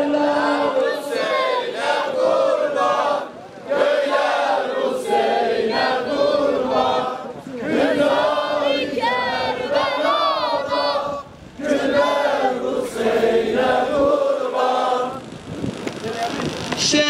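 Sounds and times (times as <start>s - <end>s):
crowd of men chanting: 0.0s - 15.2s.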